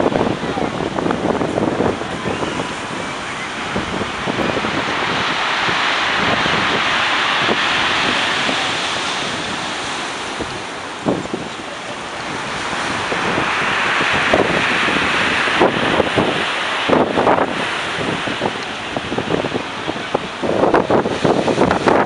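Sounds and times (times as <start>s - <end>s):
rough sea surging against a wall: 0.0s - 22.0s
wind buffeting the microphone: 0.0s - 22.0s.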